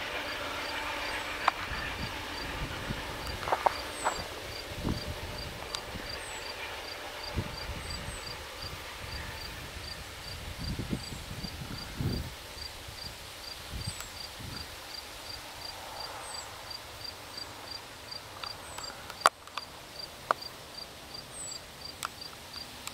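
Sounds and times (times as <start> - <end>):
low rumble of train: 0.0 - 22.9
cricket chirping: 0.3 - 20.5.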